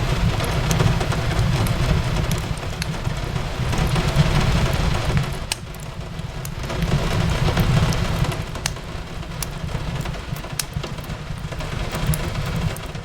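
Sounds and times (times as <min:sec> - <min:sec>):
fireplace crackling and popping: 0:00.0 - 0:13.0
rain hissing on a window: 0:00.0 - 0:13.0.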